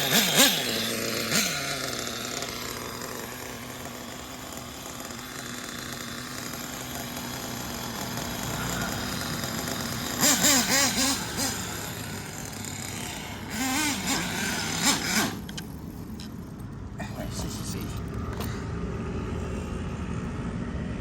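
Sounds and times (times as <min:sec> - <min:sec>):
small nitro engine running: 0:00.0 - 0:21.0.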